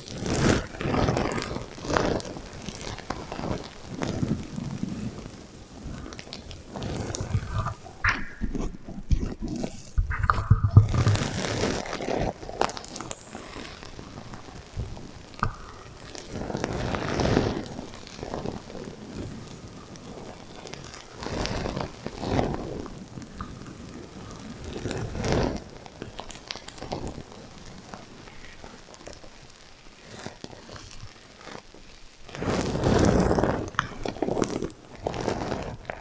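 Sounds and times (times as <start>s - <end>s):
sequins rustling and crackling: 0.0s - 36.0s.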